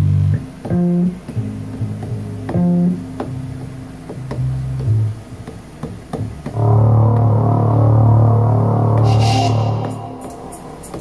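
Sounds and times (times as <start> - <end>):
low bass notes: 0.0 - 5.5, 6.2 - 11.0.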